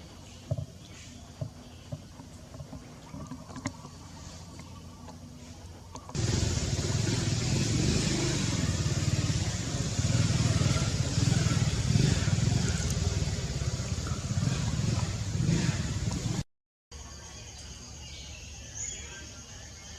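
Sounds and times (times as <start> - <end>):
vehicle engine rumbling: 0.0 - 16.5.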